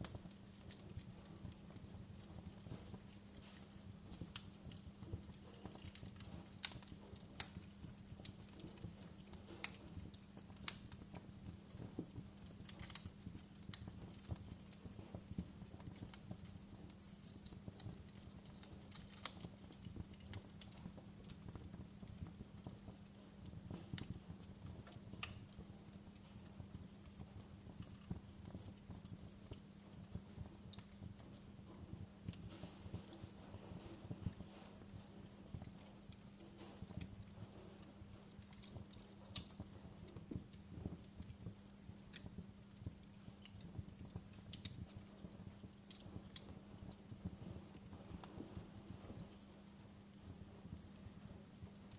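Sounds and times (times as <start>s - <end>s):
sharp pops of fire: 0.0s - 51.9s
steady low hum: 0.0s - 51.9s
wood fire crackling: 0.0s - 51.9s.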